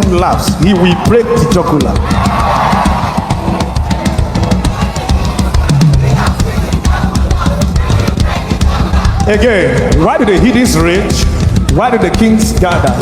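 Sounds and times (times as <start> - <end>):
bass line: 0.0 - 13.0
drum kit playing: 0.0 - 13.0
gospel band playing: 0.0 - 13.0.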